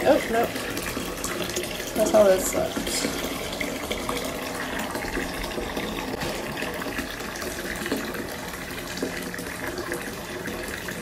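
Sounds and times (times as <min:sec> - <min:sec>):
water rushing into bathtub: 0:00.0 - 0:11.0.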